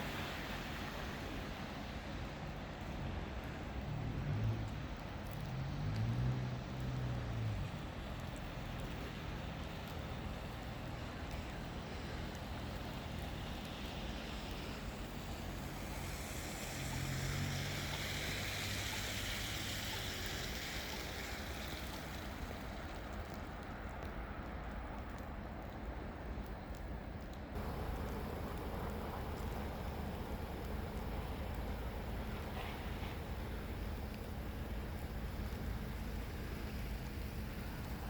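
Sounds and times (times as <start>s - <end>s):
vehicle engine hum: 0.0s - 24.2s, 27.3s - 38.0s
steady outdoor rush: 0.0s - 38.0s.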